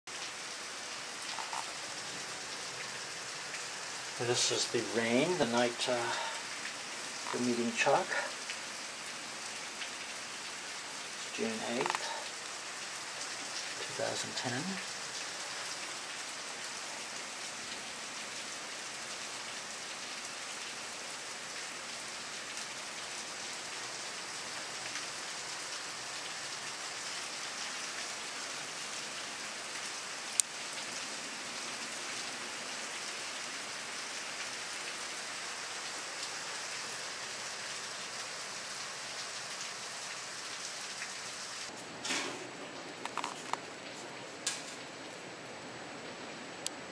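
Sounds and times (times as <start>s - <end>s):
heavy rain falling: 0.1s - 46.9s.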